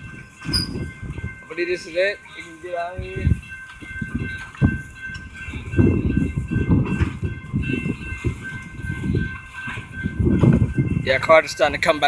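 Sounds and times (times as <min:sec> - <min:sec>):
crossing bell ringing: 0:00.0 - 0:12.0.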